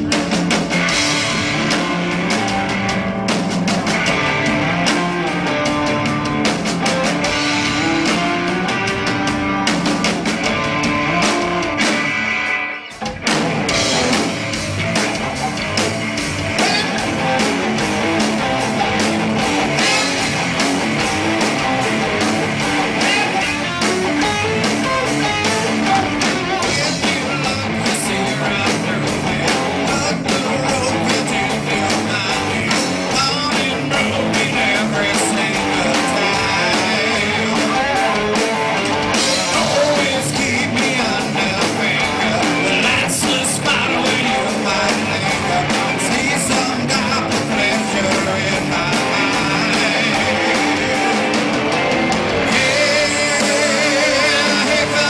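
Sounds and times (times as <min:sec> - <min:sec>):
bass guitar: 0:00.0 - 0:55.0
drum kit beat: 0:00.0 - 0:55.0
electric guitars: 0:00.0 - 0:55.0.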